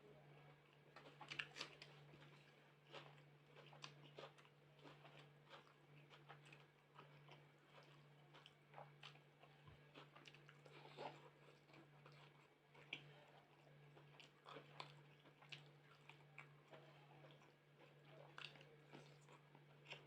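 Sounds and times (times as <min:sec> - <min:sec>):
person chewing: 0:01.0 - 0:20.0.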